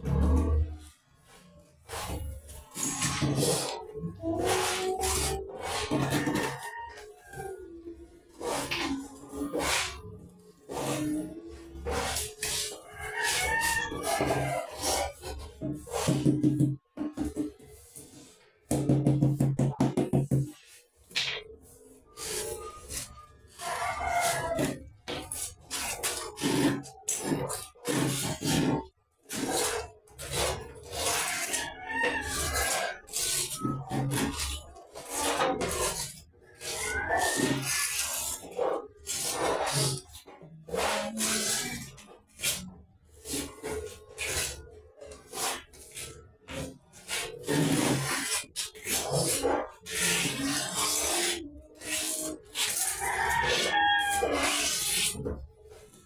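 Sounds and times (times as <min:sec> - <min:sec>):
grout rubbed over tiles: 0:00.0 - 0:16.7, 0:17.3 - 0:56.0.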